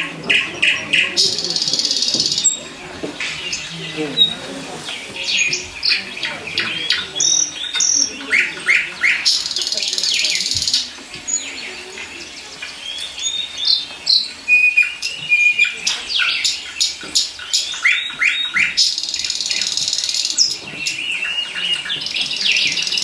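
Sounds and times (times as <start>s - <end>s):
birds chirping and whistling: 0.0s - 23.0s.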